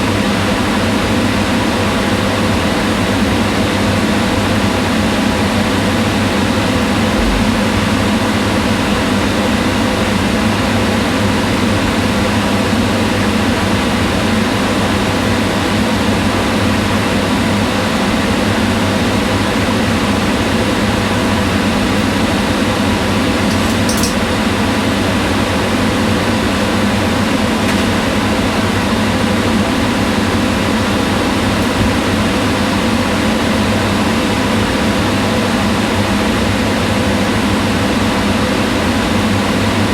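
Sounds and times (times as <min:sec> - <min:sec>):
range hood fan whirring: 0:00.0 - 0:39.9.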